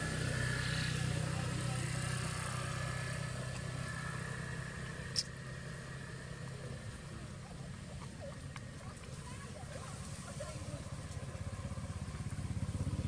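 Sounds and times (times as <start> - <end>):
motorbike engine humming: 0.0 - 13.0.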